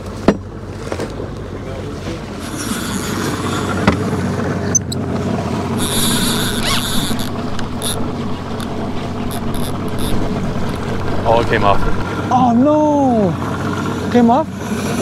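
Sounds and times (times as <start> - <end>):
water noise: 0.0 - 15.0
wind: 0.0 - 15.0
outboard motor running: 0.1 - 15.0.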